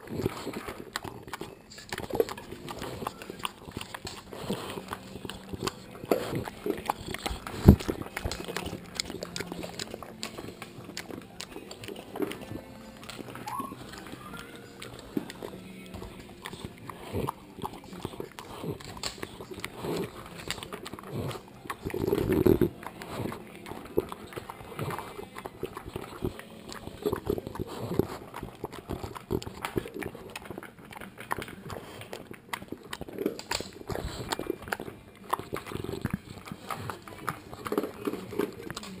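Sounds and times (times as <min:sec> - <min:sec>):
dog licking and lapping: 0:00.0 - 0:39.0.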